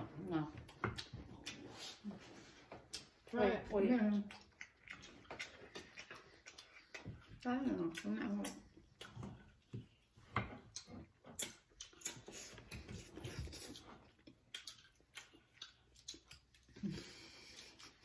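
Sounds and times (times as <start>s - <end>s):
chewing and mouth smacks: 0.6s - 3.3s, 4.1s - 18.0s.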